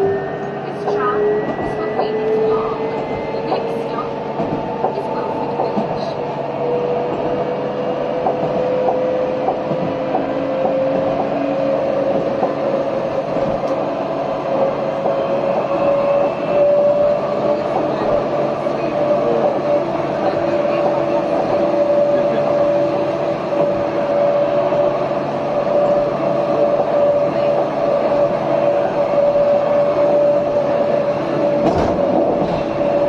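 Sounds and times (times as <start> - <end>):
tram rolling rumble: 0.0 - 33.0.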